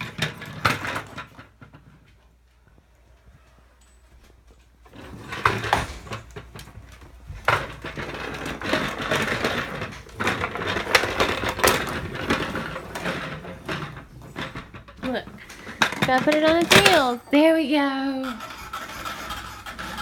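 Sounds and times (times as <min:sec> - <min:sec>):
plastic pull toy rattling on floor: 0:00.0 - 0:02.1, 0:04.9 - 0:20.0.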